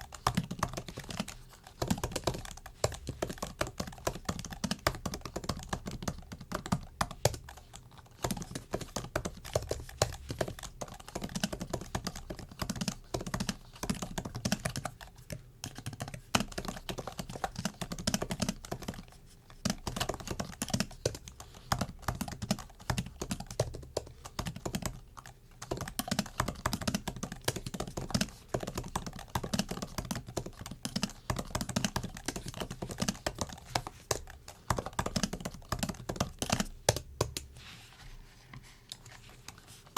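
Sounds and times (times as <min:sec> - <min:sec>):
keyboard typing: 0:00.0 - 0:37.5.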